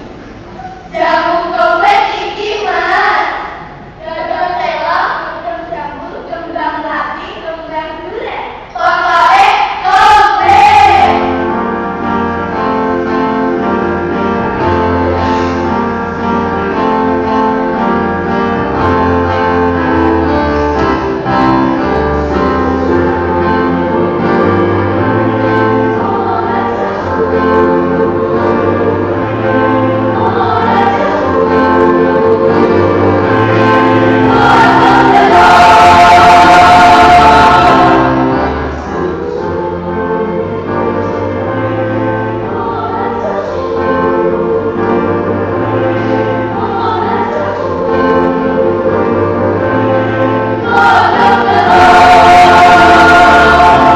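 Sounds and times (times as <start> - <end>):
school choir singing: 0.0 - 5.4, 8.8 - 53.9.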